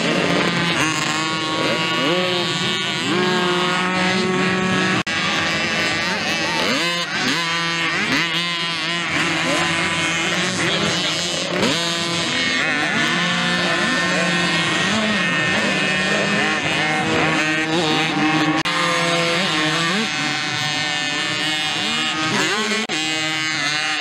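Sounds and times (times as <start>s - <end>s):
dirt bikes revving past: 0.0s - 24.0s.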